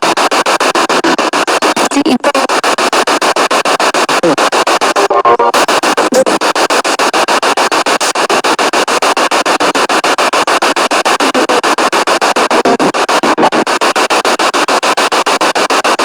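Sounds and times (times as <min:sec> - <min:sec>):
fragments of broadcast sound: 0:00.0 - 0:16.0
radio static chopped into pulses: 0:00.0 - 0:16.0.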